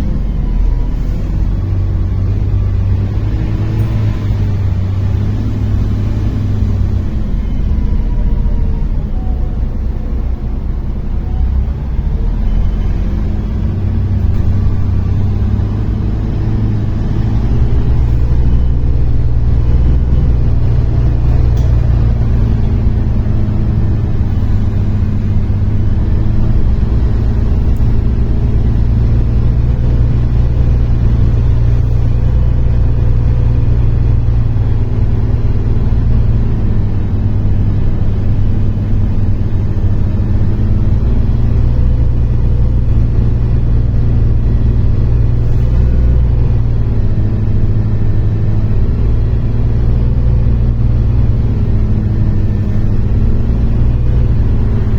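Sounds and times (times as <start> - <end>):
bus diesel engine: 0.0 - 54.9
road rumble: 0.0 - 54.9.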